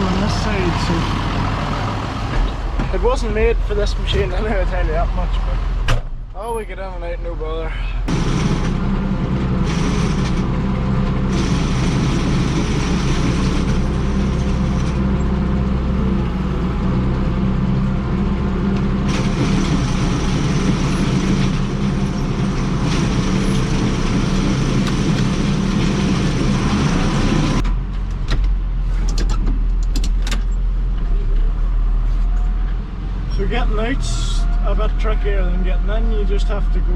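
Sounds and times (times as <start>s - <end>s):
tractor engine running: 0.0s - 6.2s, 7.8s - 35.9s.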